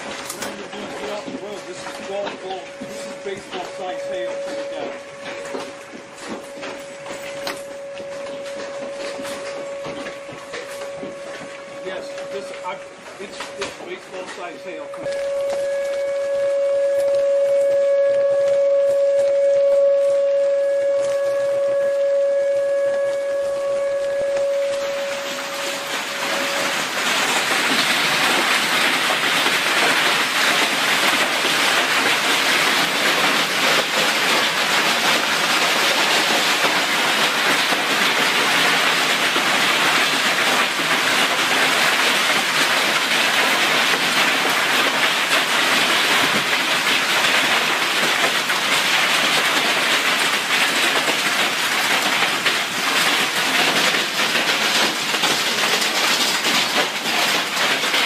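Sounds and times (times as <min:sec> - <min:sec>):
hail and rain pelting down: 0:00.0 - 0:58.0.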